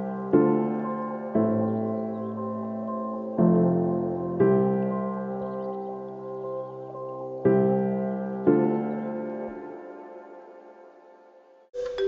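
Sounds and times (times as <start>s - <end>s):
soft slow piano chords: 0.0s - 12.0s.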